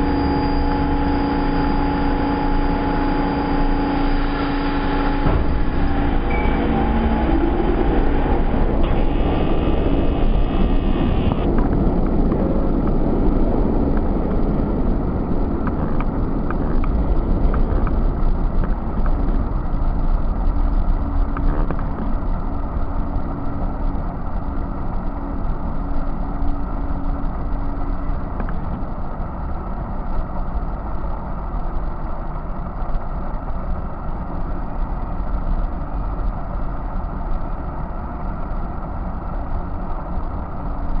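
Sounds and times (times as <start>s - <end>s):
subway train rumbling on rails: 0.0s - 41.0s.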